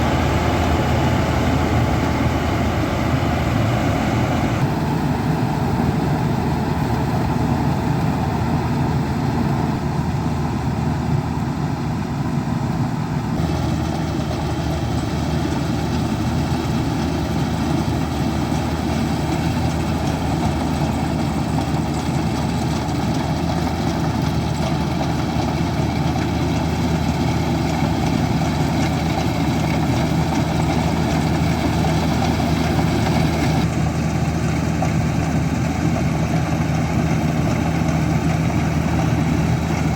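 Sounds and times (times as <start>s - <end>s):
farm machinery diesel engine: 0.0s - 39.9s.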